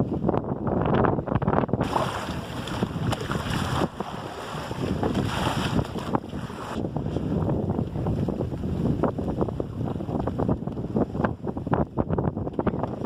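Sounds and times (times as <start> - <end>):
wind buffeting microphone: 0.0 - 13.0
water washing along hull: 1.6 - 13.0.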